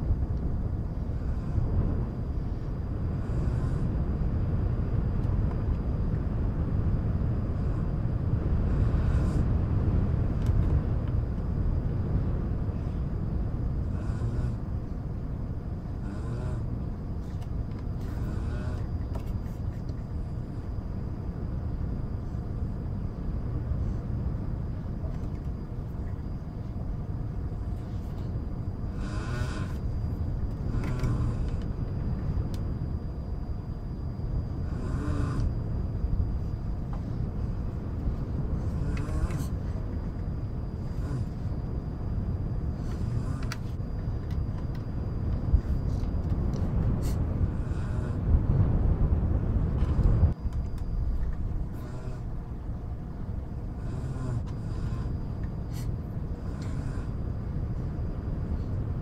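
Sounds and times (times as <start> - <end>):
white noise: 0.0 - 59.0
wind rumble: 0.0 - 59.0.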